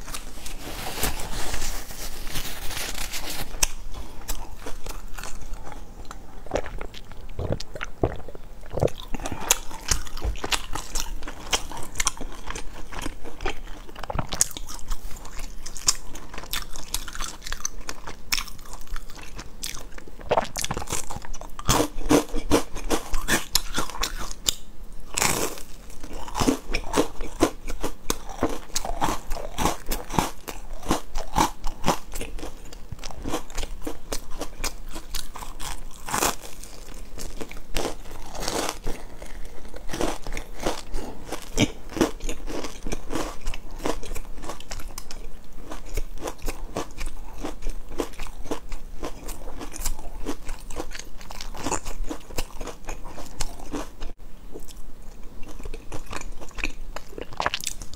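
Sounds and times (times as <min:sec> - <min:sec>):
person crunching biscuit: 0:00.0 - 0:54.8.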